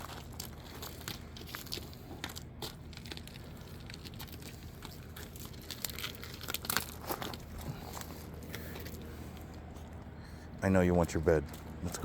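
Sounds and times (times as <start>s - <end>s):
rustling and crinkling: 0.0s - 10.1s
light clicks and crunches: 0.0s - 12.0s.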